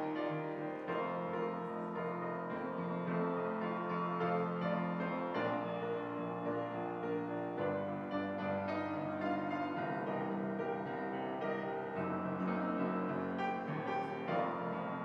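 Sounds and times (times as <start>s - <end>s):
grand piano slow chords: 0.0s - 15.0s.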